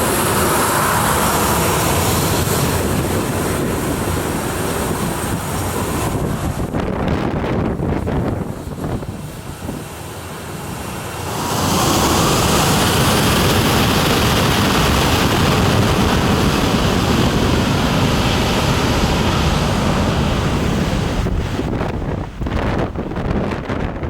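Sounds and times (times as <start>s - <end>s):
jet engines spooling up: 0.0s - 23.8s
wind buffeting microphone: 0.0s - 24.0s.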